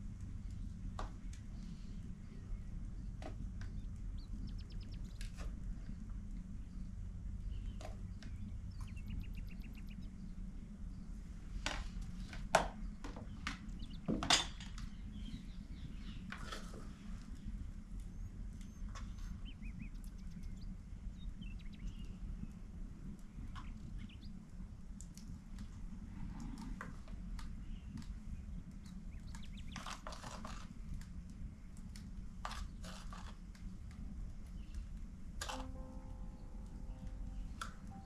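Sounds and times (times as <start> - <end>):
low background noise: 0.0 - 38.0
small birds chirping: 0.1 - 25.8, 26.4 - 38.0.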